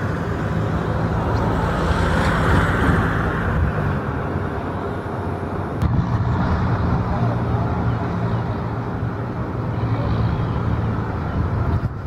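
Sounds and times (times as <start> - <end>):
jet aircraft rumble: 0.0 - 12.0.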